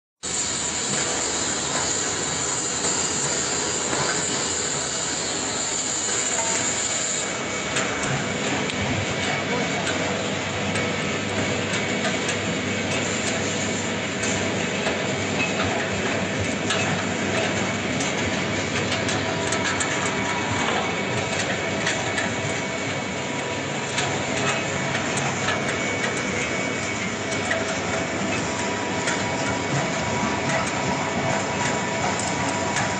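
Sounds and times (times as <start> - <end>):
machinery running with high hiss: 0.2 - 32.9.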